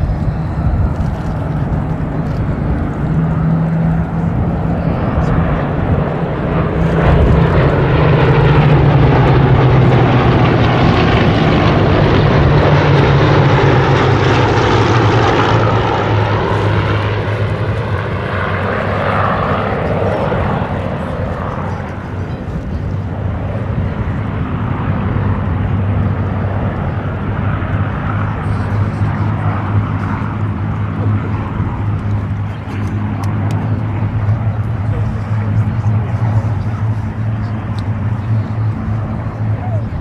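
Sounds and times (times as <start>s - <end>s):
aircraft engines droning: 0.0s - 40.0s.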